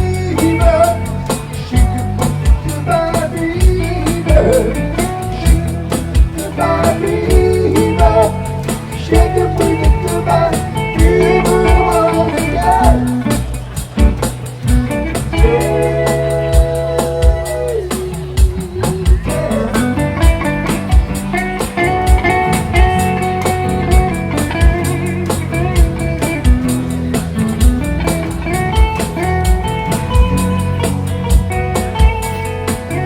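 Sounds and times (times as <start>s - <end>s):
drum beat: 0.0s - 33.0s
guitar melody: 0.0s - 33.0s.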